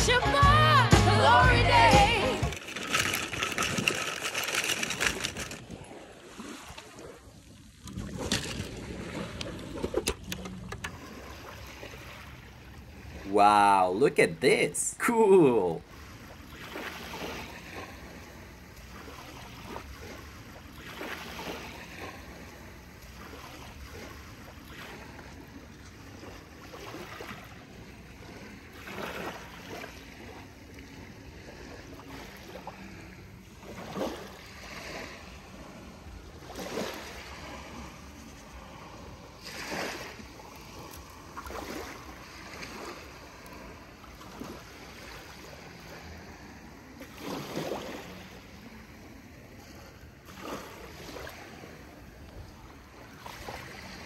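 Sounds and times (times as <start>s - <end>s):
water sloshing and splashing: 1.4s - 13.4s, 15.7s - 54.0s.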